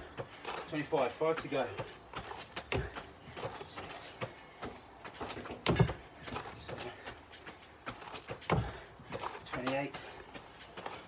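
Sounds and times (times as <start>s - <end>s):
scuffing steps on gravel: 0.3s - 11.0s.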